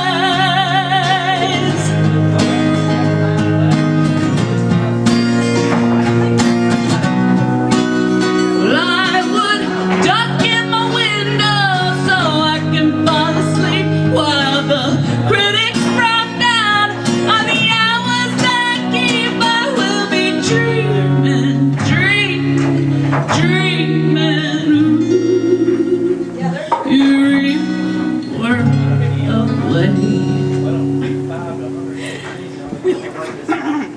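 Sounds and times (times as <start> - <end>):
acoustic guitar music: 0.0 - 33.9.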